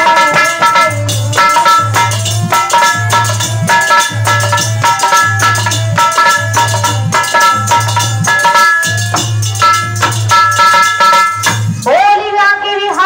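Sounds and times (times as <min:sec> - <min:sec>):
harmonium melody: 0:00.0 - 0:11.8
rhythmic percussion: 0:00.0 - 0:13.0.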